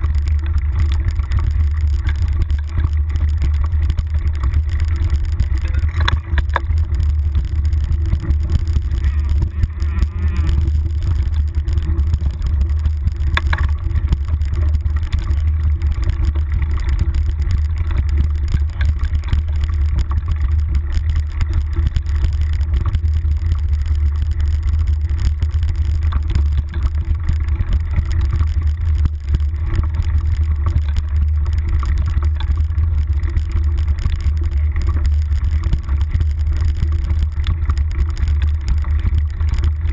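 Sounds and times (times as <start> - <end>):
bike clattering over bumps: 0.0 - 39.9
bike rolling low rumble: 0.0 - 39.9.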